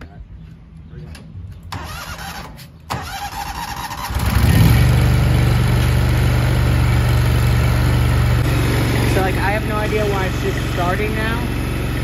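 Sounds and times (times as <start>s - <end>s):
tractor engine running: 1.8s - 12.0s.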